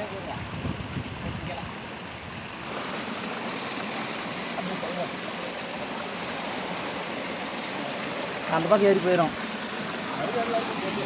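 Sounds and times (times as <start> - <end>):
water rushing down a channel: 0.0 - 11.0.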